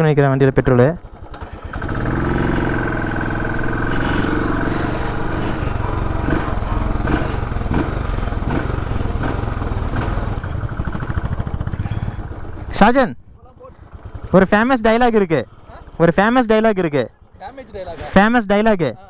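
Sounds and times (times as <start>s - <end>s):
motorcycle engine pulling away: 0.6s - 18.2s.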